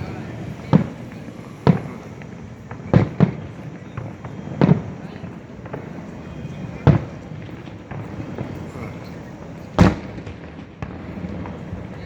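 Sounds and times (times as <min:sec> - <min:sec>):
faint firework pops: 0:00.0 - 0:12.0
firework booms: 0:00.0 - 0:12.0.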